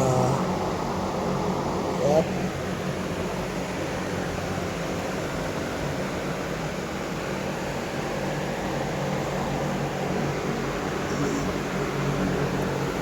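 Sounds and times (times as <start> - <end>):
fan-like machine humming and hissing: 0.0 - 13.0.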